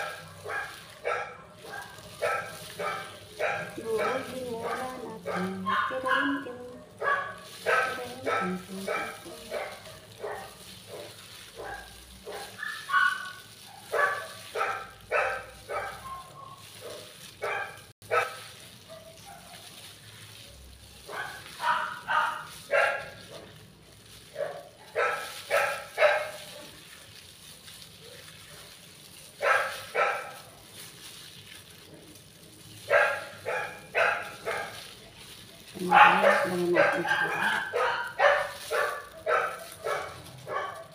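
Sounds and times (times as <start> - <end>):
dogs barking: 0.0 - 20.4, 21.0 - 40.9.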